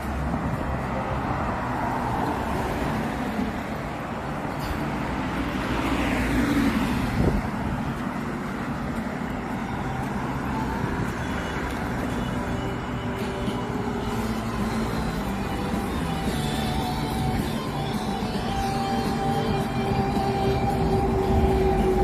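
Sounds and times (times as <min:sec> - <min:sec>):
traffic hum: 0:00.0 - 0:22.0.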